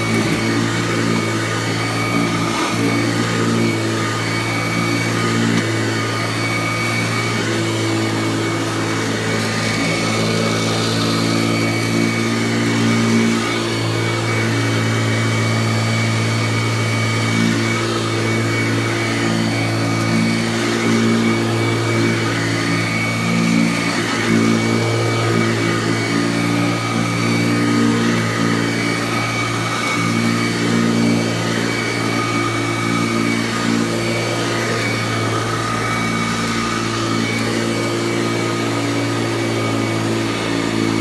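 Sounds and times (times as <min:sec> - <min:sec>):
vacuum cleaner motor hum: 0:00.0 - 0:41.0.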